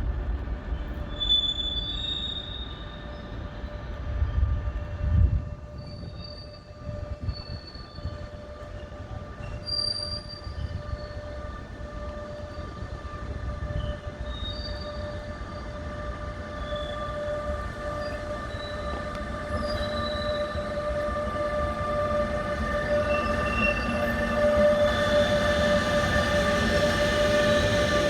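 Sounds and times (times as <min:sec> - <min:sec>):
train rumble: 0:00.0 - 0:28.0
wheels squealing on rails: 0:00.6 - 0:28.0.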